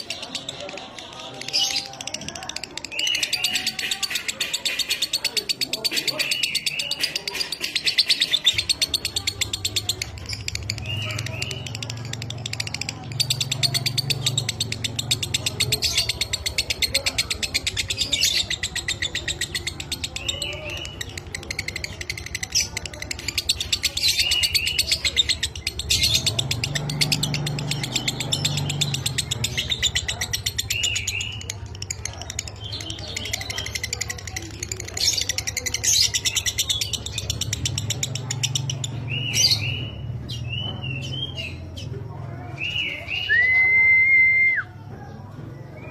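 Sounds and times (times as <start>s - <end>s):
lovebird chattering trill: 0.0s - 41.9s.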